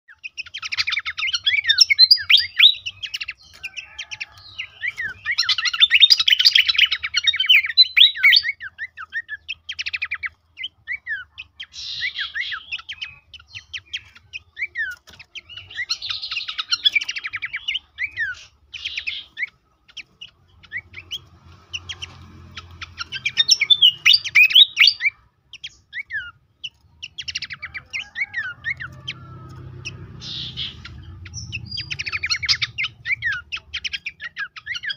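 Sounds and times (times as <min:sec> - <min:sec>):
bird singing chirps and trills: 0:00.1 - 0:34.9.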